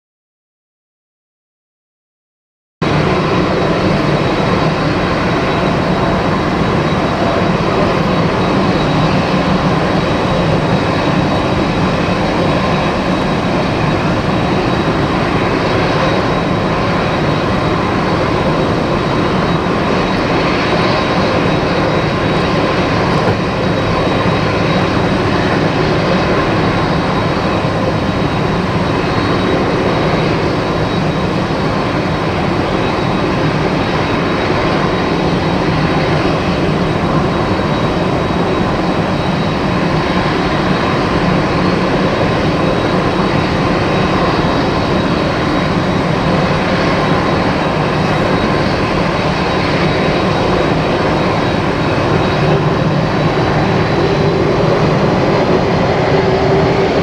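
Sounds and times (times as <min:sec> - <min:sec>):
high-pitched engine whine: 0:02.8 - 0:57.0
jet engines running: 0:02.8 - 0:57.0.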